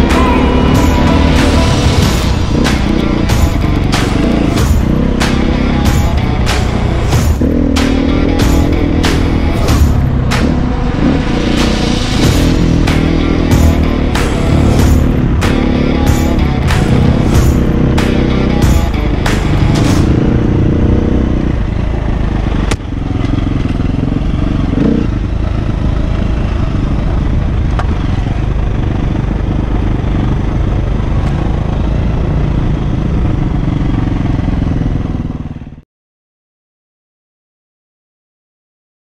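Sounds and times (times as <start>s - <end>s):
dirt bike engine: 0.0s - 35.8s.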